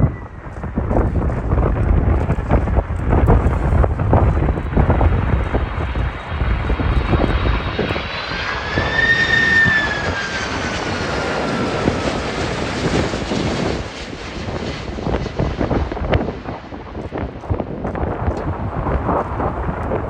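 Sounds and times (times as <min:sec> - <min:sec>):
jet engines flying past: 0:00.0 - 0:20.0
wind buffeting microphone: 0:00.0 - 0:20.0.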